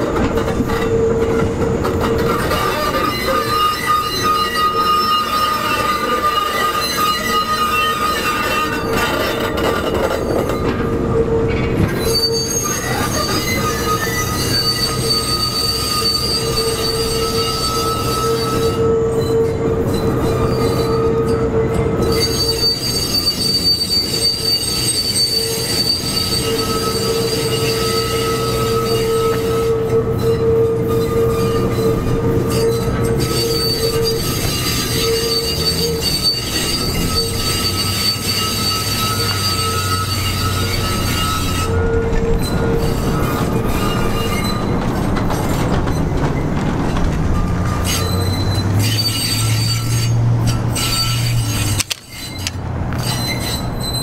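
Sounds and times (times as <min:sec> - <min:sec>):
steel wheels squealing: 0:00.0 - 0:54.0.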